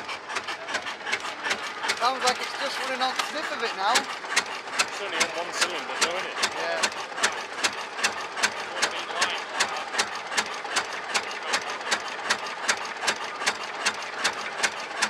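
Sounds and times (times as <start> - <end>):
engine running slowly: 0.0 - 15.0.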